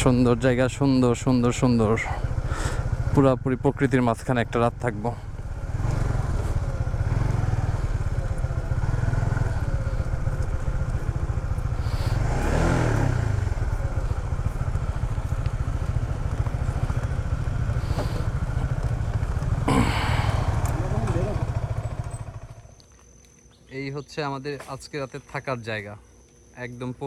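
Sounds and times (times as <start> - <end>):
motorcycle engine running slowly: 0.0 - 23.0.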